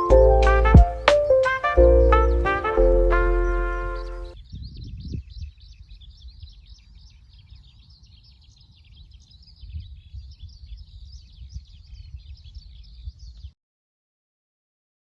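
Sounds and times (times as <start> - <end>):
small birds chirping in chorus: 1.0 - 13.6.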